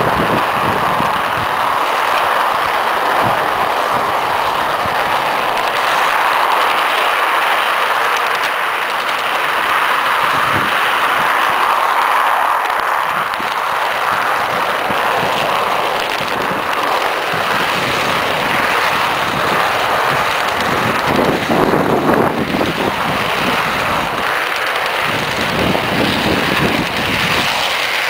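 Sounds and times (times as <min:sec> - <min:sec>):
model train rolling on rails: 0:00.0 - 0:28.0.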